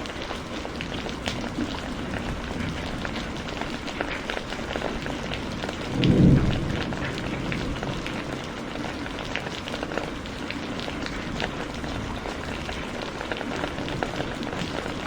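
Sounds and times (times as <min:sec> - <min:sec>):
heavy rain falling: 0:00.0 - 0:15.0
thunder rumble: 0:00.8 - 0:15.0.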